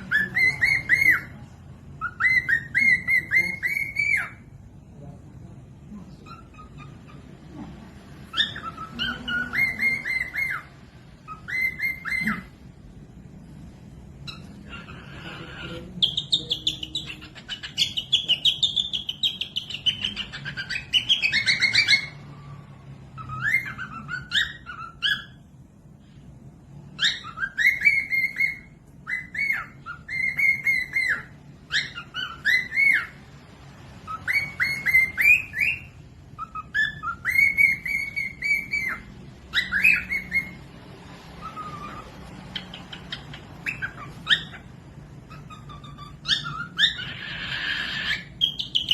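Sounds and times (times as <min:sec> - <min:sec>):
parrot whistled chirps: 0:00.0 - 0:04.5, 0:08.2 - 0:12.7, 0:14.1 - 0:25.7, 0:26.7 - 0:33.3, 0:34.0 - 0:48.9.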